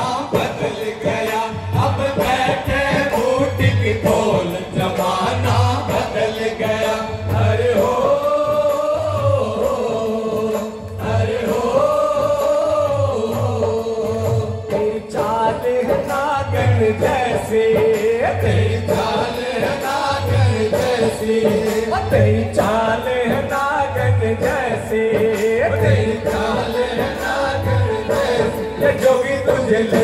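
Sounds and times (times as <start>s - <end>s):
men singing long held notes: 0.0s - 30.0s.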